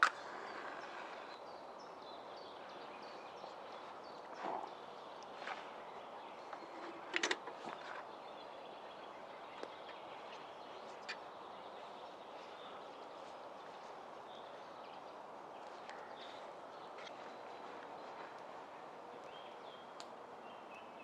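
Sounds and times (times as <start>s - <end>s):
steady forest hiss: 0.0s - 21.0s.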